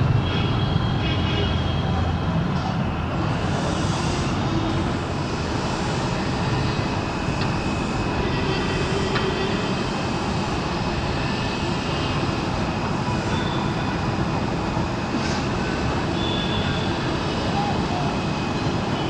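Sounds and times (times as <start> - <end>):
jet engines running: 2.5 - 19.0.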